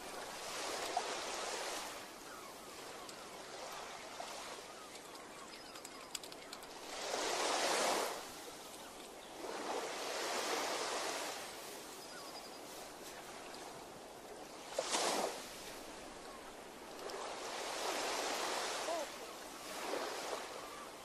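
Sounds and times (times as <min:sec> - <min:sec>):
small waves washing onto shore: 0:00.0 - 0:21.0.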